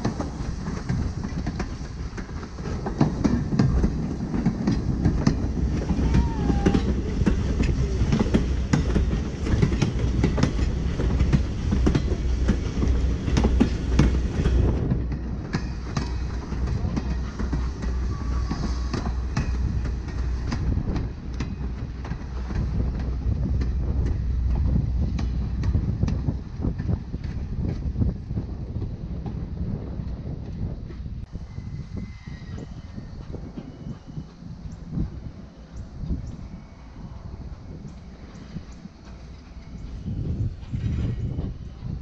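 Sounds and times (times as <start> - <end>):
train rumble: 0.0 - 42.0
train wheels clicking over rail joints: 0.0 - 42.0.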